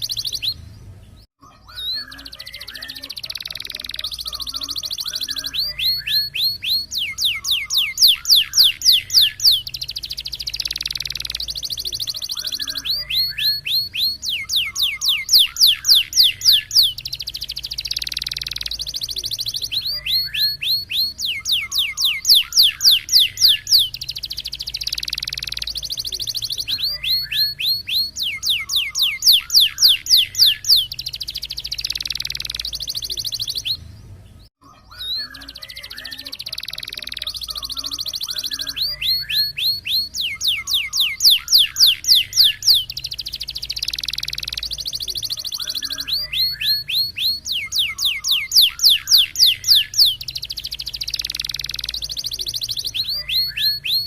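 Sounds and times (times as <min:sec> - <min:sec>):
canary singing rolling trills: 0:00.0 - 0:54.0.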